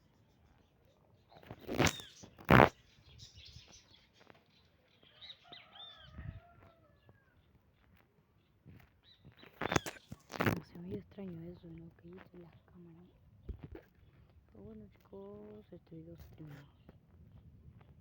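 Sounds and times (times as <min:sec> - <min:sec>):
faint bird chirps: 0:00.0 - 0:17.4.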